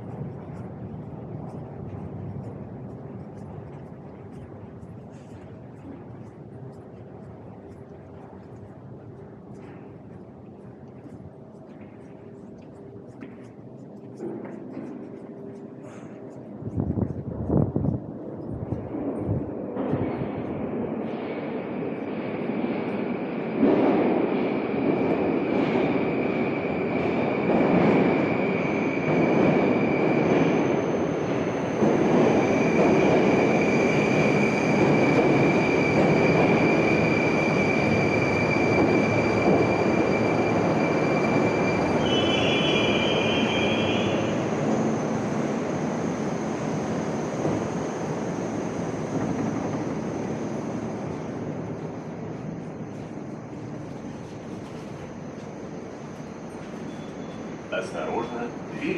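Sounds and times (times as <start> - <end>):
high whine of train: 0.0 - 58.9
metro train wheels rumbling: 0.0 - 58.9.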